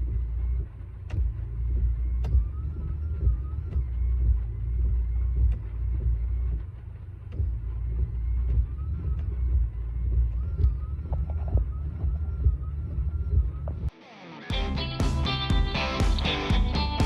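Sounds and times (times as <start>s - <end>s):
low car rumble: 0.0s - 13.9s
windscreen wipers ticking: 0.0s - 13.9s.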